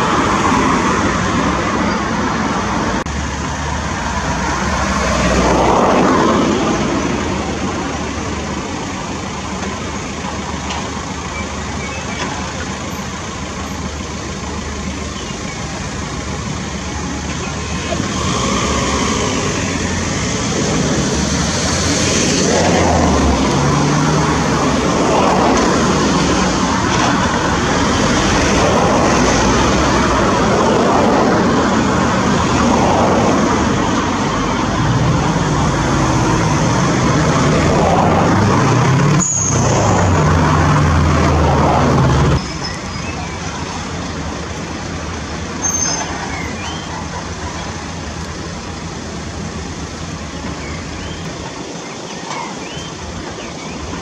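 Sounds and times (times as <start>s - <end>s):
excavator diesel engine revving: 0.0s - 51.2s.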